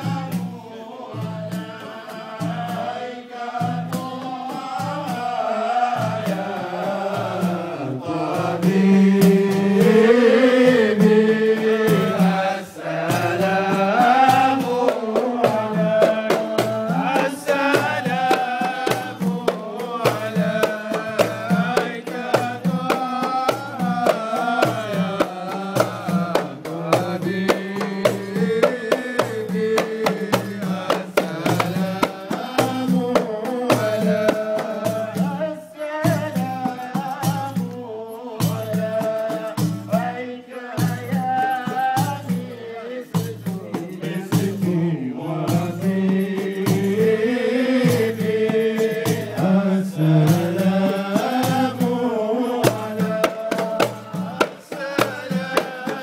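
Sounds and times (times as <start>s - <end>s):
frame drums beating: 0.0s - 56.0s
men singing devotional song: 0.0s - 56.0s.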